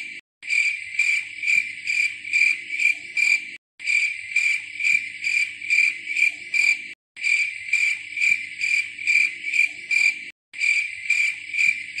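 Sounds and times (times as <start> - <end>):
cricket chirping: 0.4 - 12.0.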